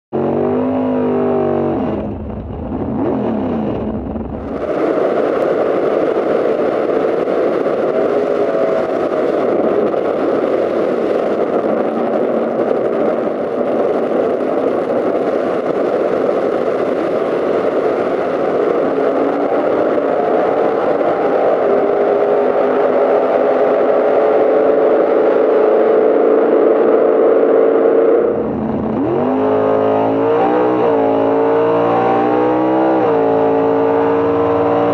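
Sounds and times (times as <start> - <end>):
drag car engines running: 0.4 - 32.4.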